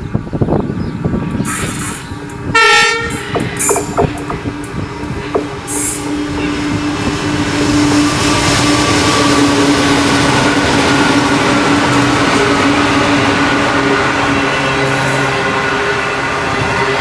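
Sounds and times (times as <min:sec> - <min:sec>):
diesel locomotives passing: 0:00.0 - 0:17.0.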